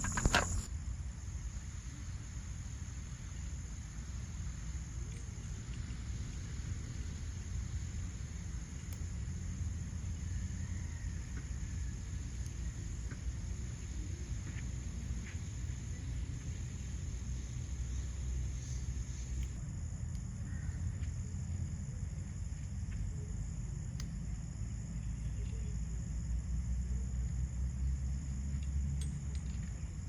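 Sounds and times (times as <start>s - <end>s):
constant low rumble: 0.0s - 30.0s
insects chirring: 0.0s - 30.0s.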